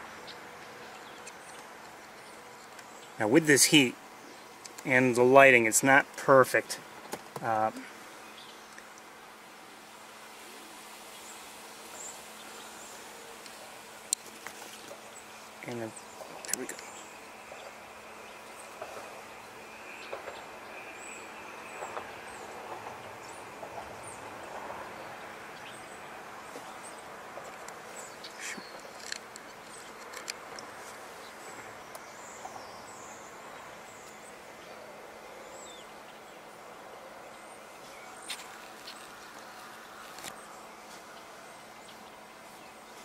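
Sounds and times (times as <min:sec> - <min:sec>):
background hiss: 0:00.0 - 0:43.0.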